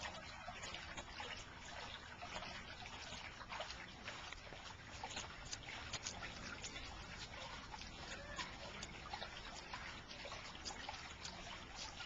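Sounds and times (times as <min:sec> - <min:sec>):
fountain pump running: 0:00.0 - 0:12.0
water trickling and splashing: 0:00.0 - 0:12.0.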